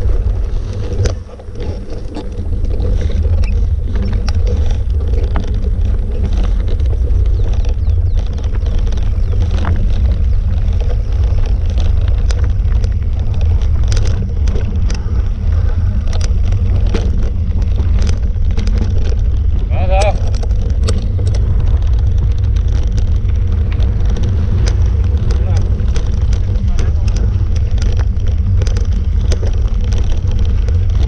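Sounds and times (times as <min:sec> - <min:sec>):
small clicks and crunches: 0:00.0 - 0:31.0
wind buffeting microphone: 0:00.0 - 0:31.0.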